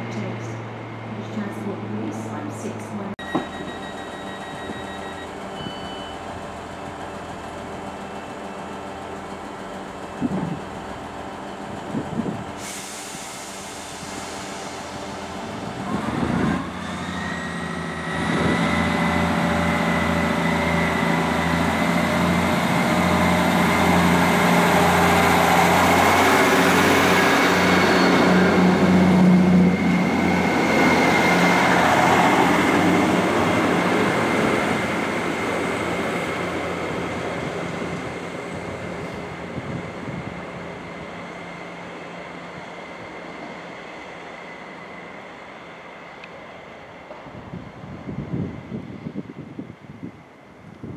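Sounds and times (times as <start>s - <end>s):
train carriages passing: 0.0s - 50.7s
diesel train engine whine: 0.0s - 50.9s.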